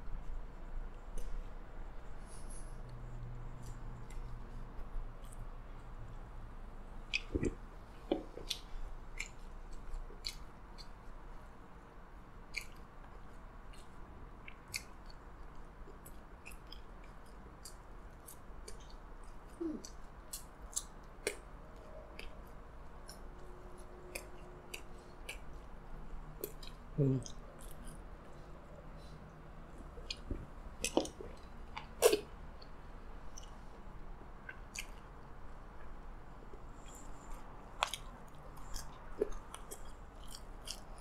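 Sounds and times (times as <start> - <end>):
chewing soggy fries: 0.2 - 41.0.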